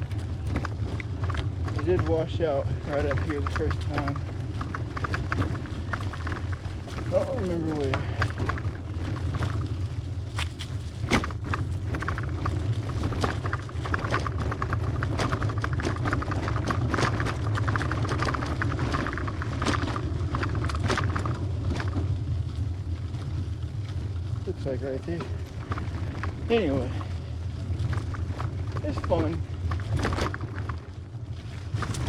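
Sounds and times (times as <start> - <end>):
bicycle frame clicks and rattles: 0.0 - 32.0
bicycle rumbling over dirt trail: 0.0 - 32.0.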